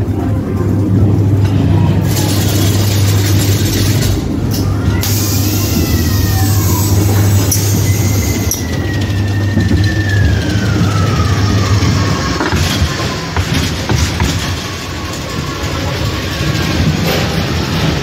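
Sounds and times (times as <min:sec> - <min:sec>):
long falling whine: 0:00.3 - 0:18.0.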